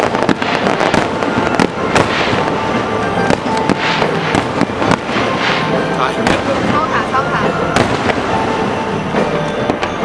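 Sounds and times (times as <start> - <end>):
firework shells bursting: 0.0 - 8.5
fireworks crackling: 0.0 - 10.0
music: 0.0 - 10.0.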